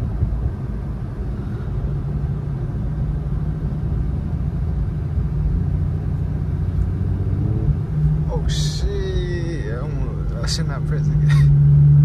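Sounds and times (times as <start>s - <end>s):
car cabin drone: 0.0s - 12.0s.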